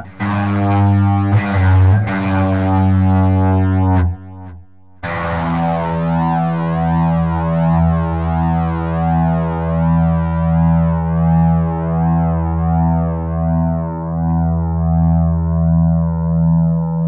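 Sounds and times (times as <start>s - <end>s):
sustained synthesizer chord: 0.0s - 17.0s.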